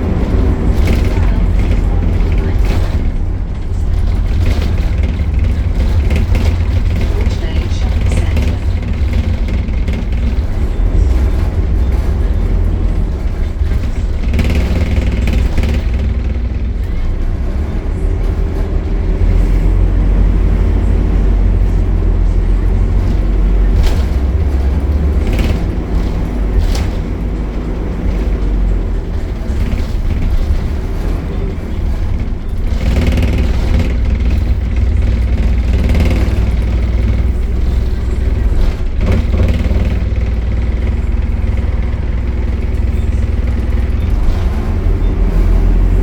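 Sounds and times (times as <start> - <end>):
short knocks or rattles: 0.0 - 45.2
bus diesel engine rumbling: 0.0 - 46.0.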